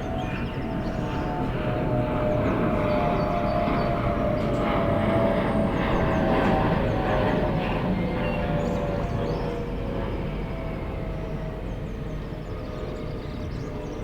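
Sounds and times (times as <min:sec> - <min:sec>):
airliner engine roar: 0:00.0 - 0:14.0.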